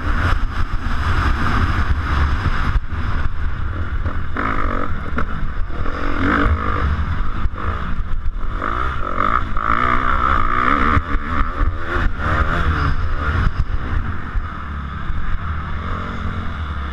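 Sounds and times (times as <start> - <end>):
motocross bike engine revving: 0.0 - 16.9.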